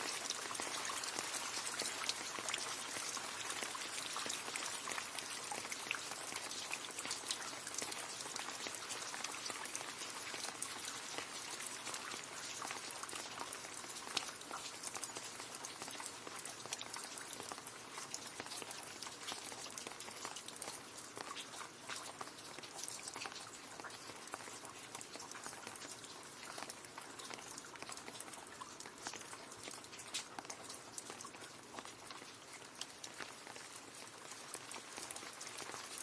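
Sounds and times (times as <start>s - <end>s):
rain falling into a puddle: 0.0s - 36.0s.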